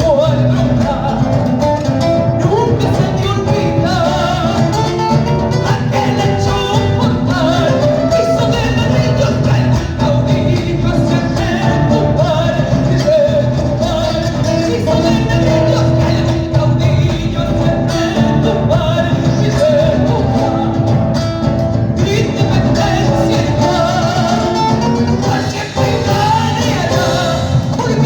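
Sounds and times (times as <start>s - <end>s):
live latin band music: 0.0s - 28.0s
person singing: 2.4s - 21.0s, 22.0s - 28.0s.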